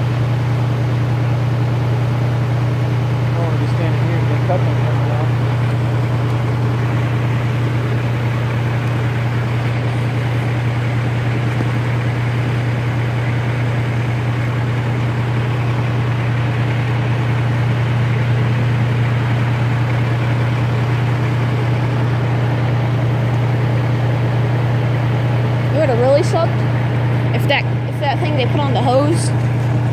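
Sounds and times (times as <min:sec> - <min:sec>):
diesel engines idling: 0:00.0 - 0:29.9.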